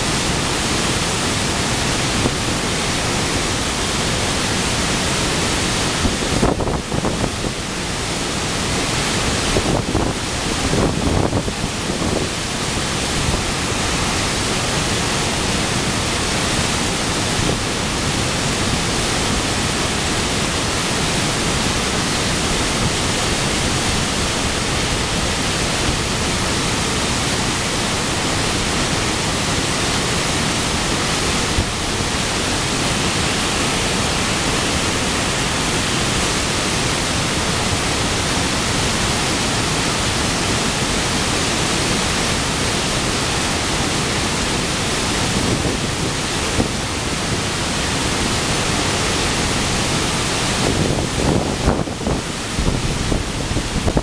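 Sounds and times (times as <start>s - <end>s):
water pouring over dam: 0.0s - 54.0s.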